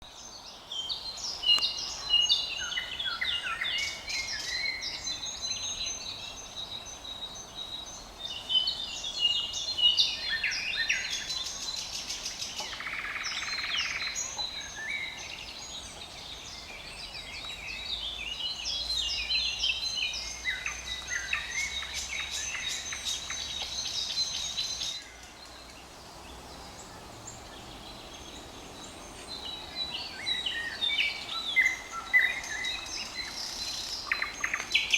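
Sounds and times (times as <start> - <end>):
nightingale singing: 0.1 - 34.9.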